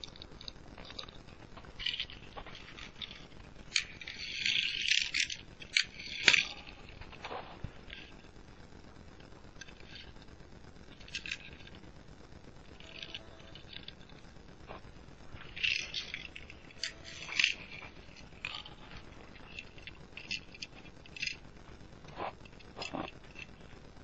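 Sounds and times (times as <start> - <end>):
toy cars scraping and clicking: 0.0 - 24.0.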